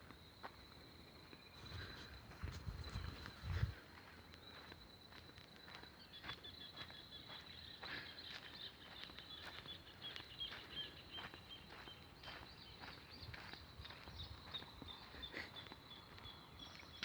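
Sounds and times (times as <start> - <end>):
footsteps crunching on a trail: 0.1 - 17.0.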